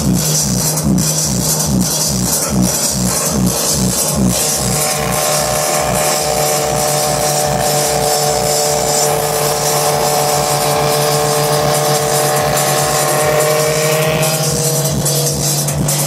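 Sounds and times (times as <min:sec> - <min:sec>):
vehicles cruising on highway: 0:00.0 - 0:16.0.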